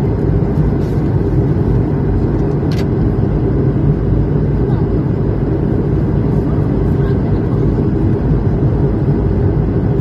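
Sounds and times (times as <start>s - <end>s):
airflow in passenger cabin: 0.0s - 10.0s
airliner engines droning: 0.0s - 10.0s.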